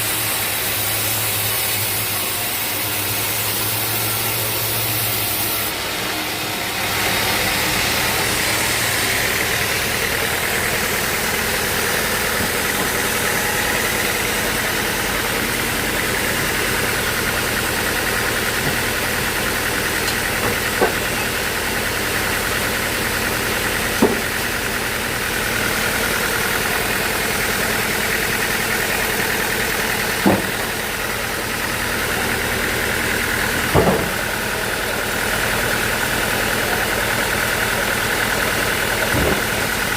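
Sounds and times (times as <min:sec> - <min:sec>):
bandsaw running: 0:00.0 - 0:39.9.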